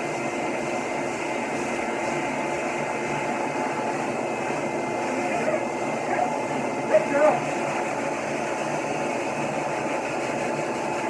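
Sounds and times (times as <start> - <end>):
pet dryer blowing air: 0.0 - 11.0.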